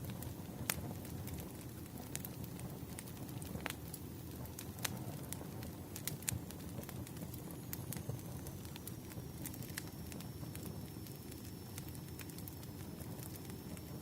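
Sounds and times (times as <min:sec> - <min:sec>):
low rush of flames: 0:00.0 - 0:14.0
wood fire crackling: 0:00.0 - 0:14.0.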